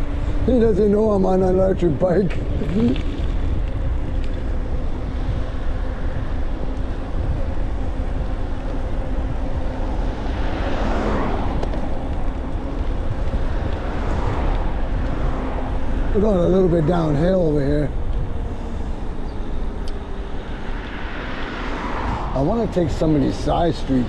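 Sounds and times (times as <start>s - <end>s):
wind rumbling on microphone: 0.0s - 24.0s
rushing noise: 4.0s - 24.0s.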